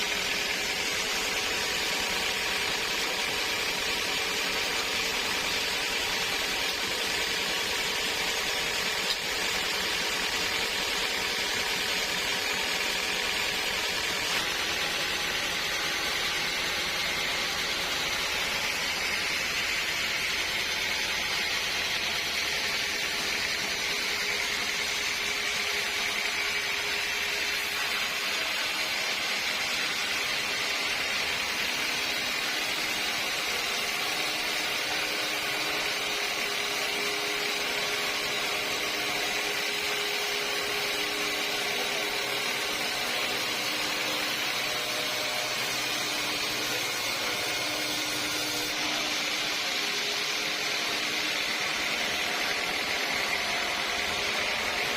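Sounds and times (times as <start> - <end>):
sawmill saw running: 0.0 - 54.9.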